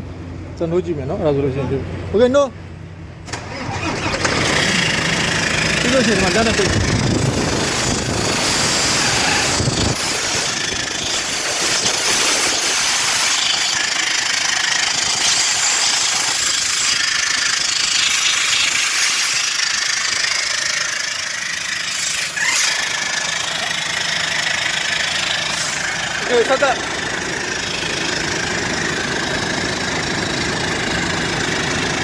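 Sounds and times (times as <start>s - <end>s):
truck engine running: 0.0s - 32.0s
compressed air hissing: 3.5s - 29.2s.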